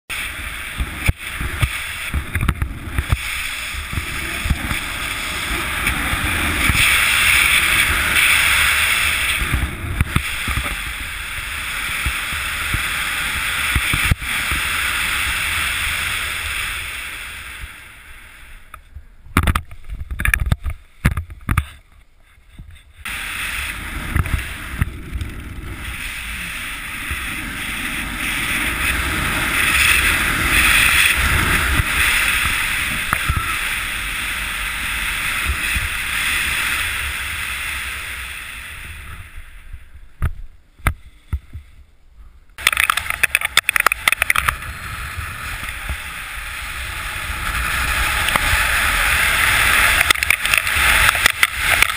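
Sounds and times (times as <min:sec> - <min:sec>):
wind rushing over microphone: 0:00.1 - 0:21.8, 0:22.6 - 0:41.9, 0:42.6 - 0:51.9.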